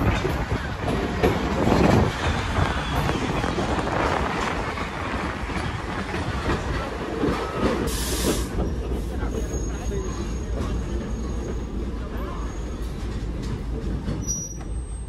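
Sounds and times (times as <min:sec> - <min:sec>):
rail car rumbling on track: 0:00.0 - 0:15.0.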